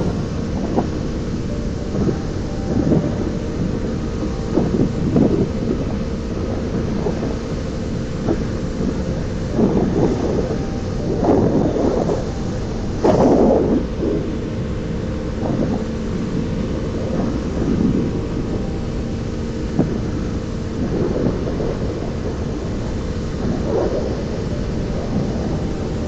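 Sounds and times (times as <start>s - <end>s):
engine hum: 0.0s - 26.0s
wind buffeting microphone: 0.0s - 26.0s.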